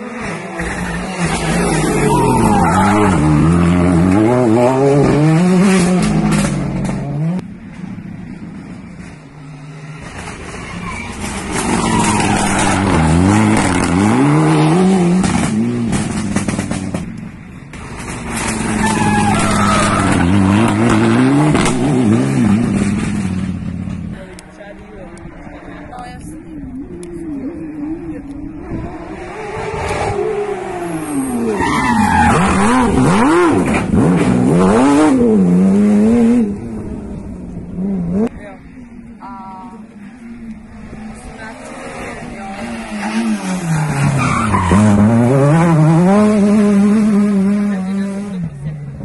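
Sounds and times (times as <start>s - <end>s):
rally cars passing revving hard: 0.0s - 49.0s.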